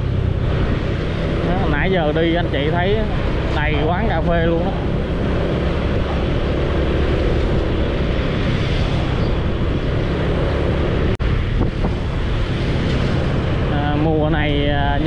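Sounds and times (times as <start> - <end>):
motorbike engine rumble: 0.0 - 15.0
wind rush on microphone: 0.0 - 15.0.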